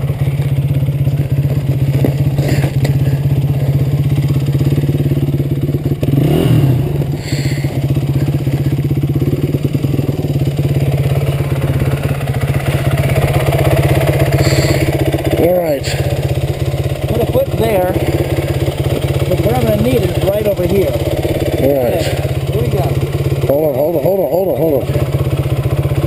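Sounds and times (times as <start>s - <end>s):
dirt bike engine idling: 0.0s - 26.0s.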